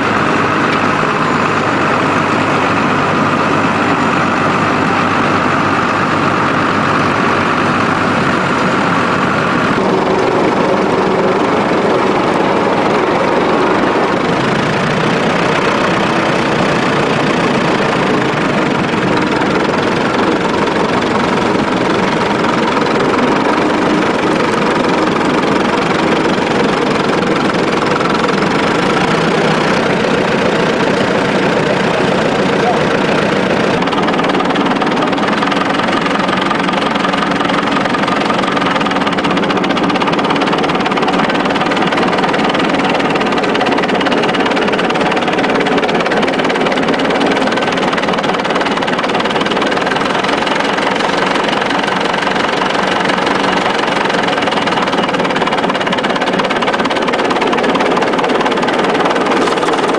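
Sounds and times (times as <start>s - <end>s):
tractor engines under load: 0.0s - 59.9s.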